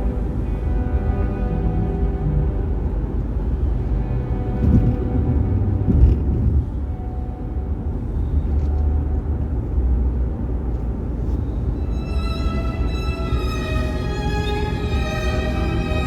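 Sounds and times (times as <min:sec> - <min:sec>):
car road and tyre rumble: 0:00.0 - 0:16.0.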